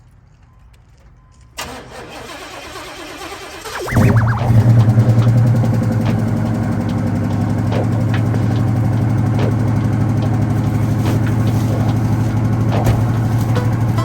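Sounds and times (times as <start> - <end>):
car engine idling: 1.6 - 14.0.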